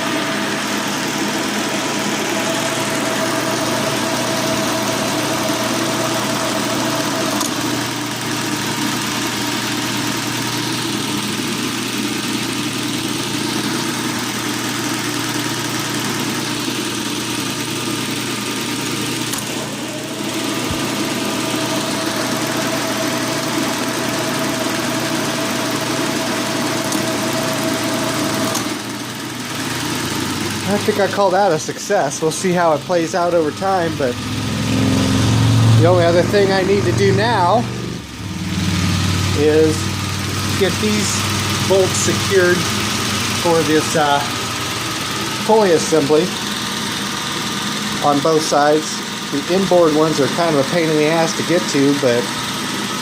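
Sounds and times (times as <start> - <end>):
metal lathe droning: 0.0 - 53.0
thin machine whine: 0.0 - 53.0.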